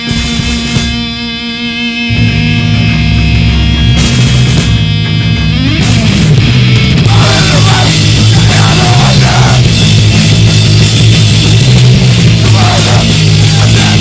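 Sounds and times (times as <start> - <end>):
live punk band playing: 0.0 - 14.0.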